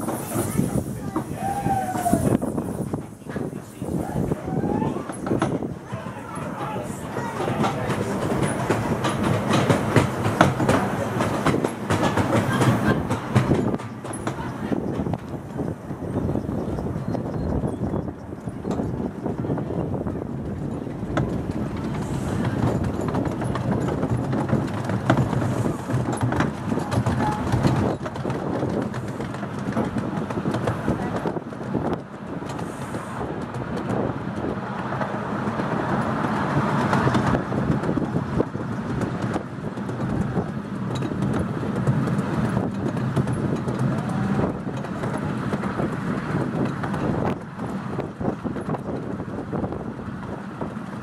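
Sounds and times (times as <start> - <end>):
miniature railway coaches rumbling: 0.0 - 51.0
small wheels clattering over rail joints: 0.0 - 51.0.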